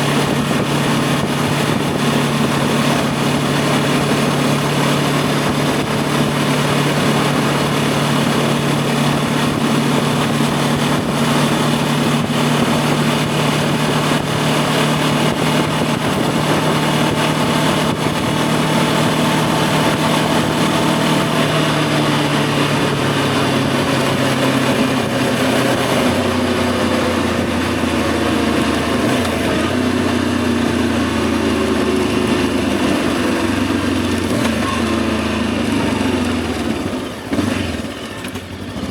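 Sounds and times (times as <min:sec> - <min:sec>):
wind noise: 0:00.0 - 0:31.6
motorcycle engine cruising: 0:00.0 - 0:38.9.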